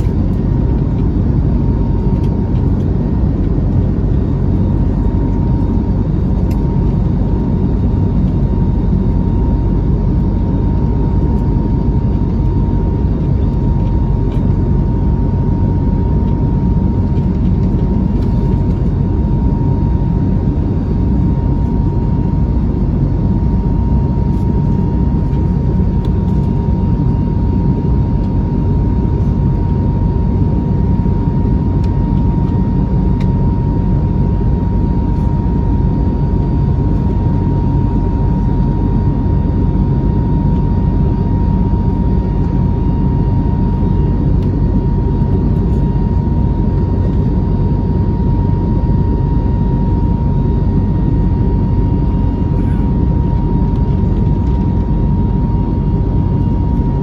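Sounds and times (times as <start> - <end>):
jet engines rushing in cabin: 0.0 - 57.0.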